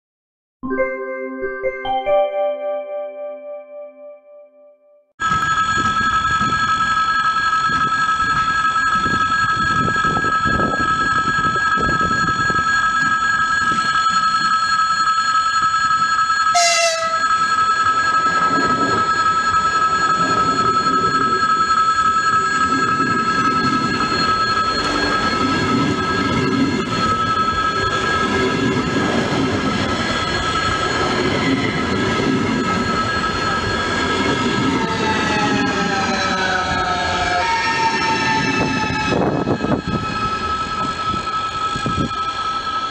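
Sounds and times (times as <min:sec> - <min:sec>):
wheels rumbling on rails: 0:05.2 - 0:16.1, 0:16.9 - 0:42.9
electric train whining: 0:05.2 - 0:42.9.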